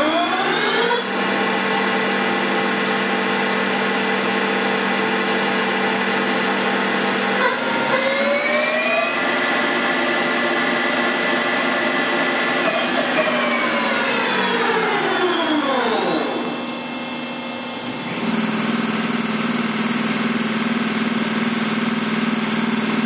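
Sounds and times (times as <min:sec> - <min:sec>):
lathe spindle whine: 0:00.0 - 0:23.0.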